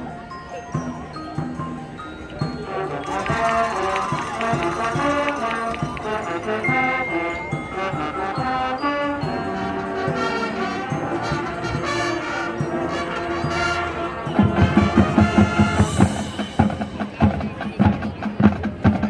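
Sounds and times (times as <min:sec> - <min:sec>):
brass band melody: 0:02.4 - 0:19.0.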